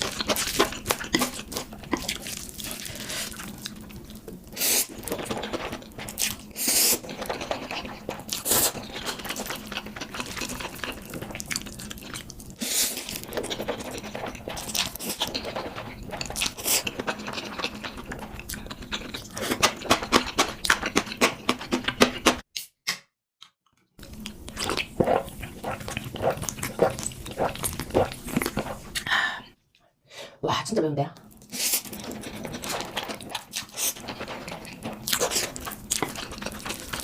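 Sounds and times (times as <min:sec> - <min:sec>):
person chewing noodles: 0:00.0 - 0:22.3, 0:24.0 - 0:29.5, 0:31.3 - 0:37.0.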